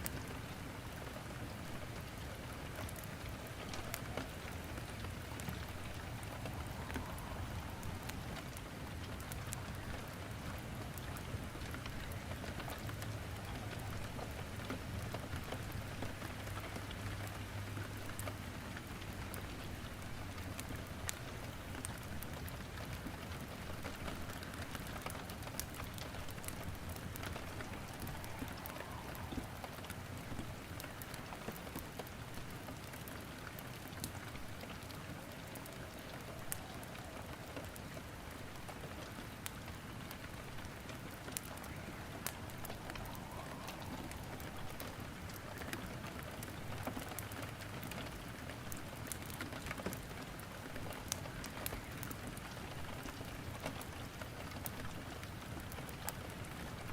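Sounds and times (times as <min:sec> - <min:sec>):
steady rain hiss: 0:00.0 - 0:56.9
wood crackling in fireplace: 0:00.0 - 0:56.9.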